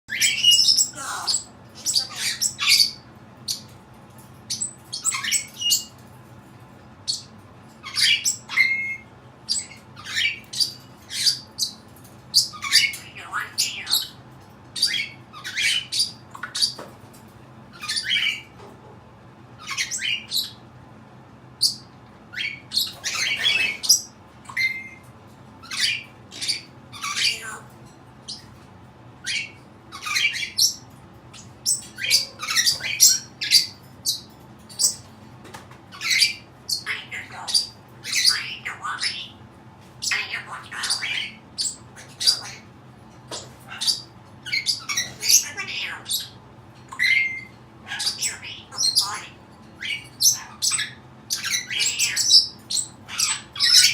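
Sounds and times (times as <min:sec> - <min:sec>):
parrot squawking: 0:00.1 - 0:03.6, 0:04.5 - 0:05.9, 0:07.1 - 0:14.2, 0:14.8 - 0:16.8, 0:17.7 - 0:18.5, 0:19.6 - 0:20.6, 0:21.6 - 0:25.0, 0:25.6 - 0:27.7, 0:29.2 - 0:35.0, 0:35.9 - 0:39.4, 0:40.0 - 0:42.7, 0:43.6 - 0:53.9.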